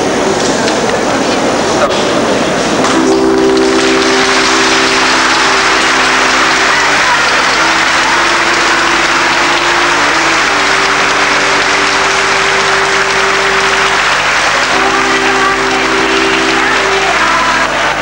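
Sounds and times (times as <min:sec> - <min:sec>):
crowd applauding: 0:02.8 - 0:18.0
held musical notes: 0:02.8 - 0:18.0.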